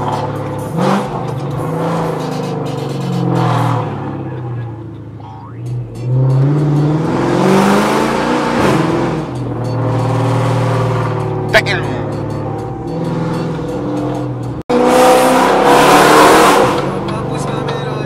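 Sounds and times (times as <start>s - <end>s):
car engine from inside cabin: 0.0s - 18.0s
music playing: 0.0s - 18.0s.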